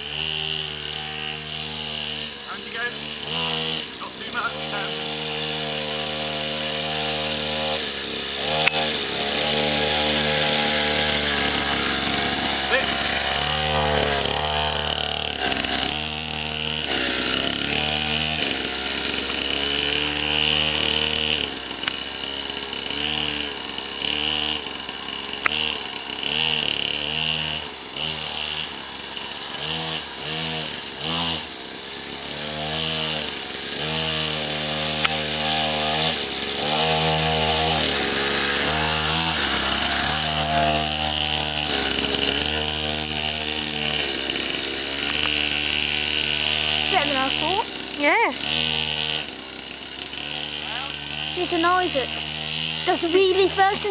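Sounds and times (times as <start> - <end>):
small motorbike engine revving: 0.0 - 53.9.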